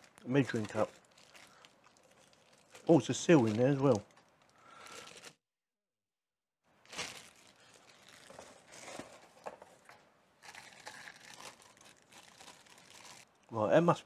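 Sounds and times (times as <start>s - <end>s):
plastic wrapping crinkling: 0.0s - 5.4s, 6.7s - 13.3s.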